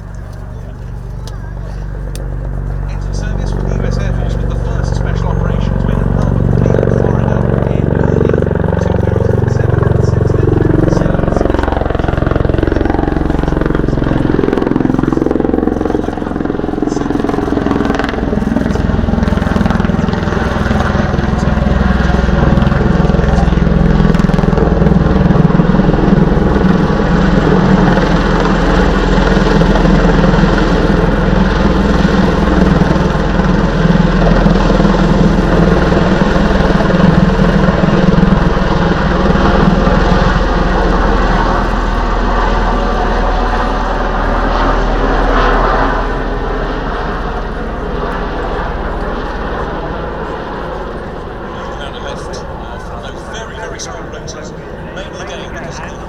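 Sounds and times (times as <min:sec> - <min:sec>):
aircraft rotor drone: 0:00.0 - 0:56.0.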